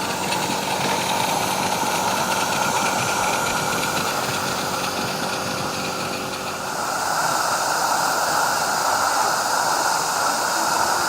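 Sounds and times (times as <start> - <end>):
miniature railway locomotive running: 0.0 - 11.0.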